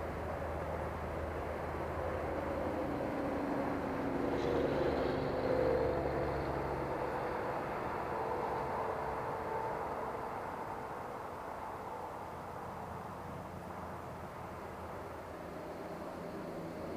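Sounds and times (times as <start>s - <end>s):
model airplane droning past: 0.0s - 16.9s.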